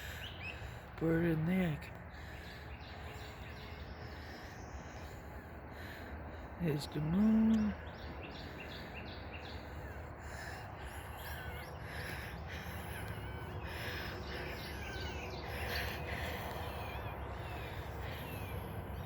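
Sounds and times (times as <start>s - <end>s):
birds chirping: 0.0s - 19.0s
harsh bird calls: 0.0s - 19.0s
low background rumble: 0.0s - 19.0s.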